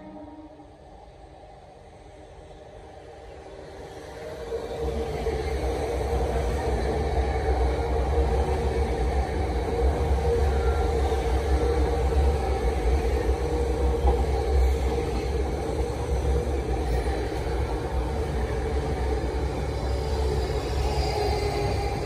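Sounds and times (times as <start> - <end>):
train hum: 0.0 - 22.0
train wheels rumbling on rail: 0.0 - 22.0.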